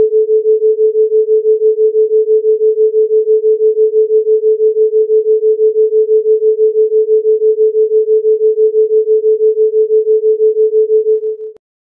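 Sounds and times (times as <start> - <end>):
pulsing pure sine tone: 0.0 - 11.6.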